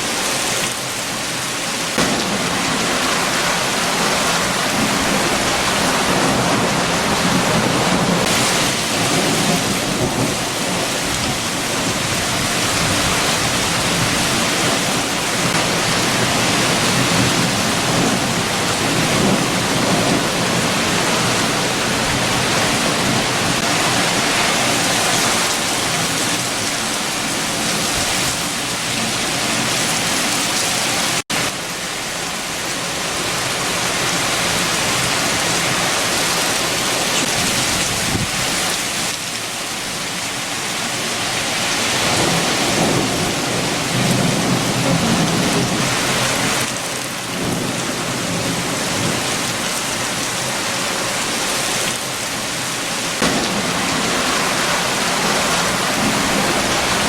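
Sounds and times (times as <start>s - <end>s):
heavy rain: 0.0s - 57.0s
strong wind: 0.0s - 57.0s.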